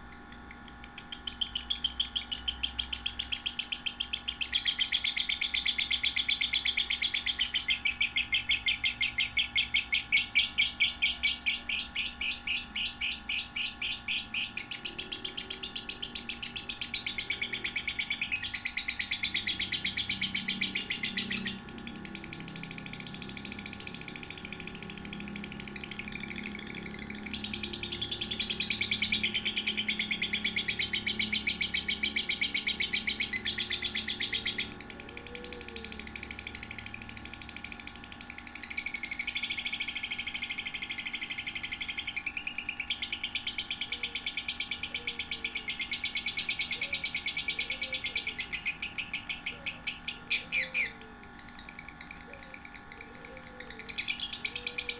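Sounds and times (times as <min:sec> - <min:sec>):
lovebird chirping trill: 0:00.0 - 0:54.9.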